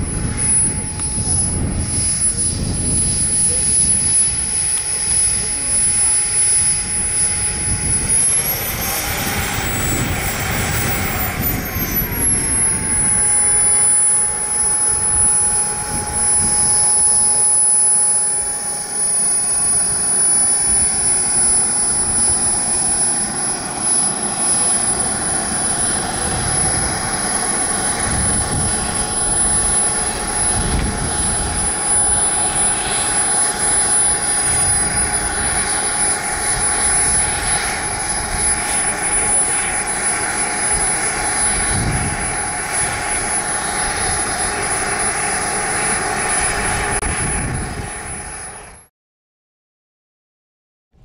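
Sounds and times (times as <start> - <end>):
model jet turbine whining: 0.0 - 48.9.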